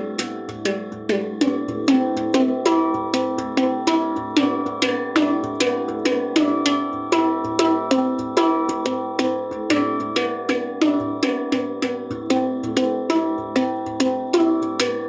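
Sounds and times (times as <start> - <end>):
handpan playing: 0.0 - 15.0.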